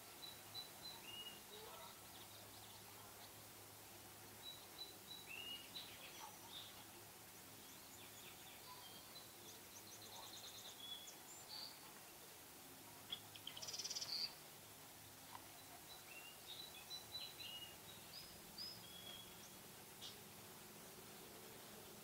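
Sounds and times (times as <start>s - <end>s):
faint bird chirps and calls: 0.0s - 3.5s, 4.3s - 12.2s, 13.0s - 14.4s, 15.3s - 21.7s.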